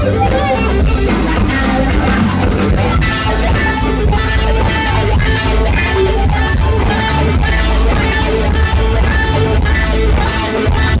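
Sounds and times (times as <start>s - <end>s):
electric guitar: 0.0s - 11.0s
live rock band playing: 0.0s - 11.0s.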